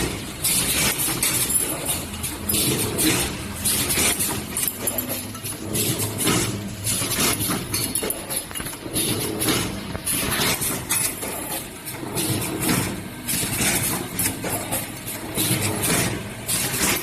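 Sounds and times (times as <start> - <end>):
machine running: 0.0 - 17.0.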